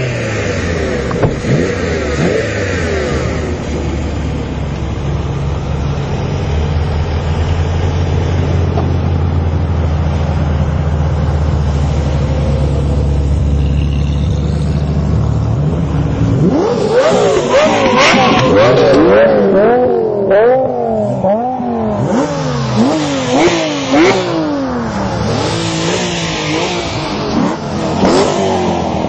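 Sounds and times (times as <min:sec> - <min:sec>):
car engine revving: 0:00.0 - 0:29.0
sports car engines droning: 0:00.0 - 0:29.0.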